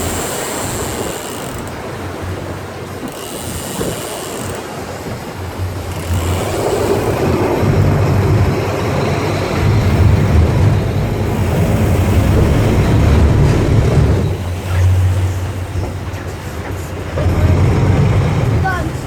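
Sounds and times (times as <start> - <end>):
boat engine rumbling: 0.0 - 19.0
water noise: 0.0 - 19.0
wind: 0.0 - 19.0.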